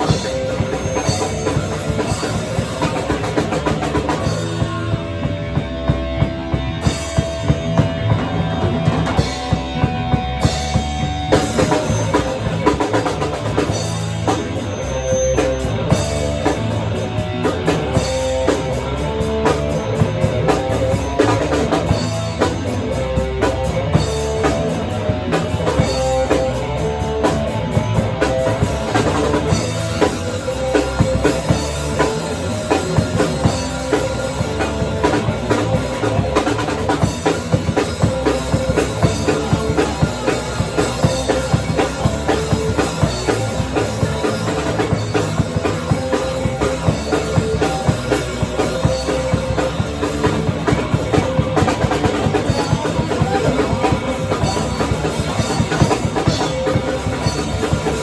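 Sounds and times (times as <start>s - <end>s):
fast drum kit hits: 0.0s - 58.0s
live rock band playing: 0.0s - 58.0s.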